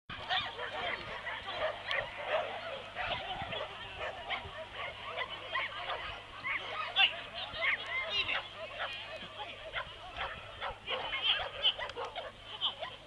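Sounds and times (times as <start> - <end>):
dogs barking and yipping: 0.1 - 13.0.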